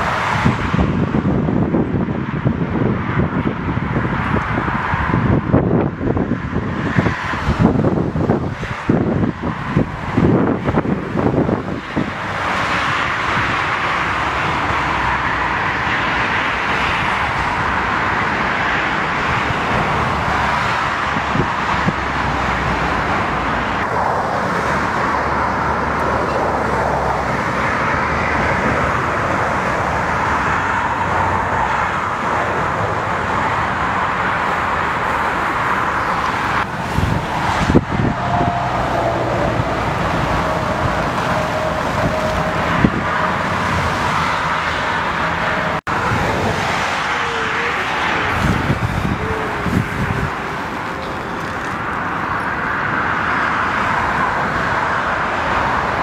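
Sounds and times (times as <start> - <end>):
jet engines roaring: 0.0 - 56.0
wind on microphone: 0.0 - 56.0.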